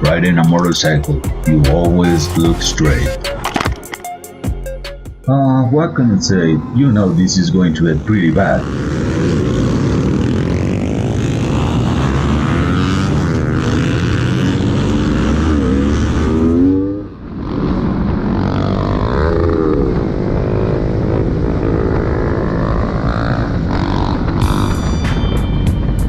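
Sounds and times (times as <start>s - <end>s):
motorcycle engine revving: 0.0s - 3.9s, 6.3s - 26.0s.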